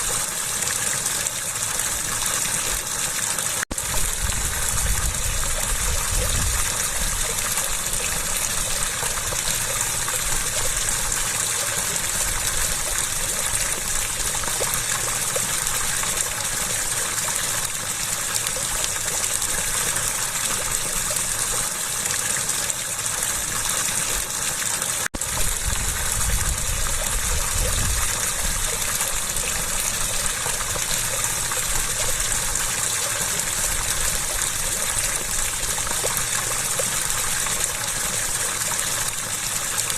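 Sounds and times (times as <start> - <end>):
running water gushing: 0.0 - 39.9.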